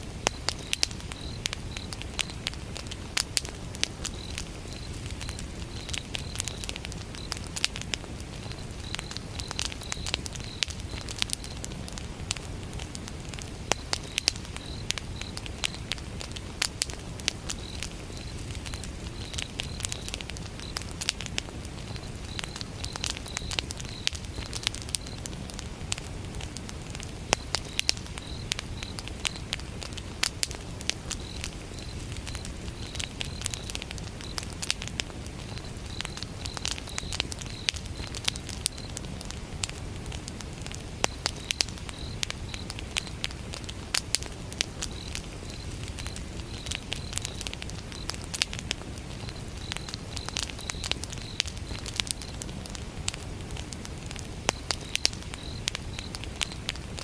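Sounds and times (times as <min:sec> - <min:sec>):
low flame noise: 0:00.0 - 0:57.0
wood fire crackling and popping: 0:00.0 - 0:57.0
cricket chirping: 0:00.2 - 0:57.0.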